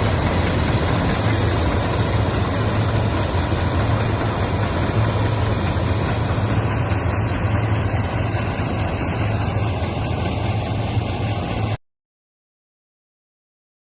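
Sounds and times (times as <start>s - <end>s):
combine harvester engine humming: 0.0s - 11.8s
machine clatter: 0.0s - 11.8s.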